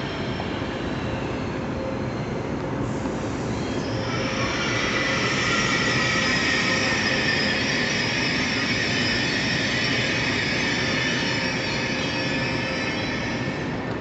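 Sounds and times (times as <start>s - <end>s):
high-pitched whine: 0.0s - 14.0s
train running noise: 0.0s - 14.0s.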